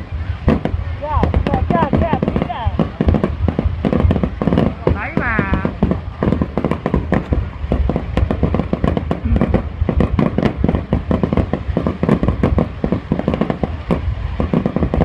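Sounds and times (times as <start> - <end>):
fireworks booming and cracking: 0.0 - 15.0
low rumble: 0.0 - 15.0.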